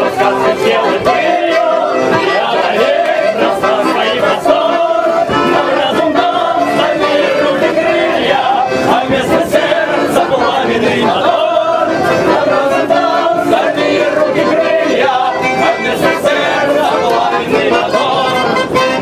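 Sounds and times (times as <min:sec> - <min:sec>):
group singing loudly: 0:00.0 - 0:19.0.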